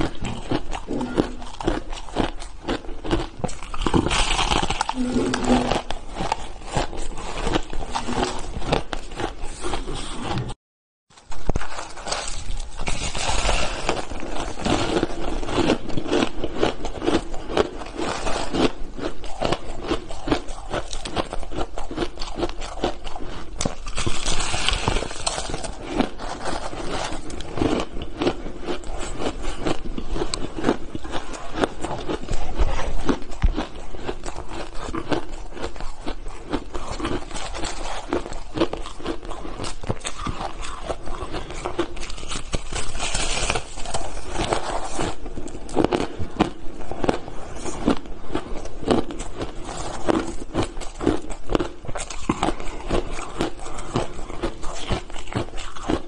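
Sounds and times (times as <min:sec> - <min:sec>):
chewing crunchy ice: 0:00.0 - 0:10.6, 0:11.2 - 0:56.0.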